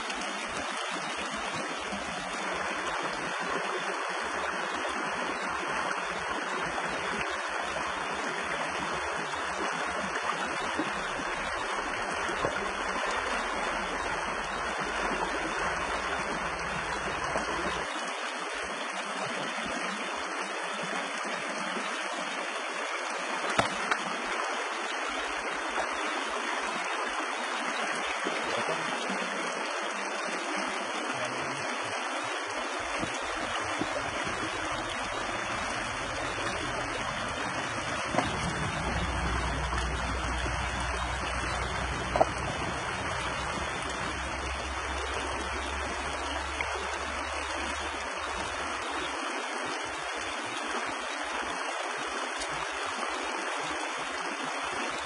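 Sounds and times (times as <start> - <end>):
stream water running: 0.0 - 55.0.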